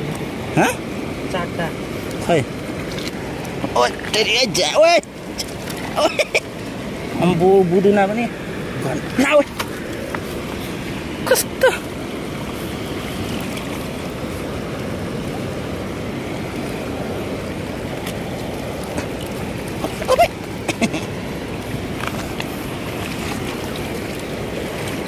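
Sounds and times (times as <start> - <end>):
river rushing over stones: 0.0 - 25.0.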